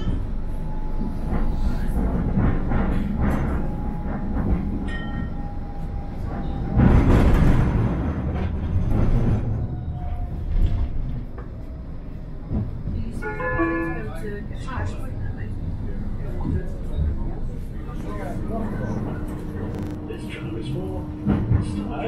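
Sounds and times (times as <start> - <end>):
tram wheels rumbling: 0.0 - 22.0.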